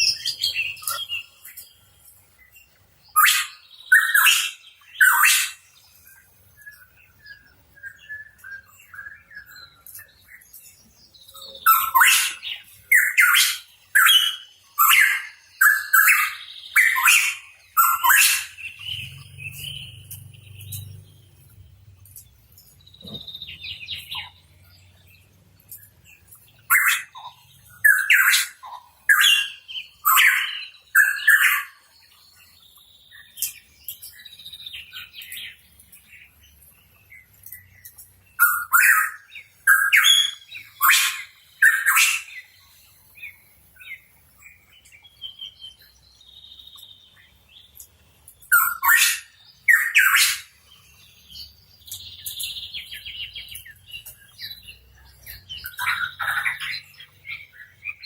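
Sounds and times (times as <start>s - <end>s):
soft bird twittering: 0.0s - 58.0s.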